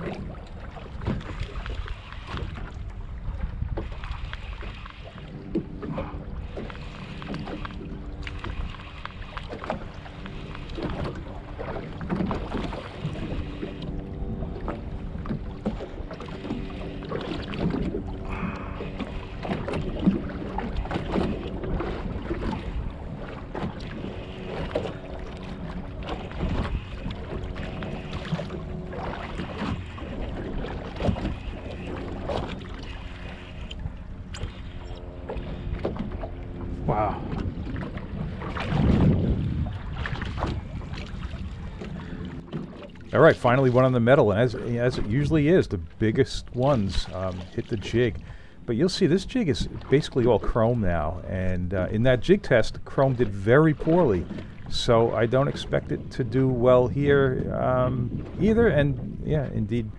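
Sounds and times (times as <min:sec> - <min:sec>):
wind on microphone: 0:00.0 - 0:34.6, 0:35.4 - 0:59.9
trolling motor hum: 0:00.0 - 0:59.9
water splashing against boat hull: 0:00.0 - 0:59.9.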